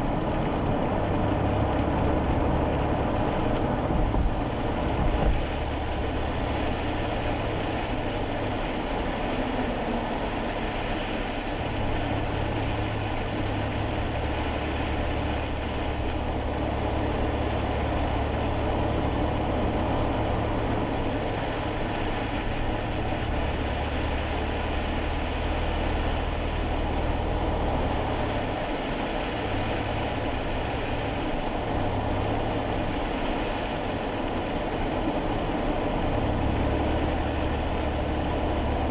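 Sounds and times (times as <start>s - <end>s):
car engine drone: 0.0s - 38.9s
tyre noise on wet road: 0.0s - 38.9s.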